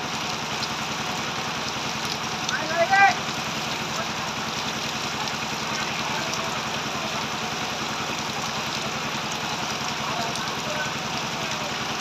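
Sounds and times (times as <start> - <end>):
engine idling: 0.0 - 12.0
heavy rain hissing: 0.0 - 12.0.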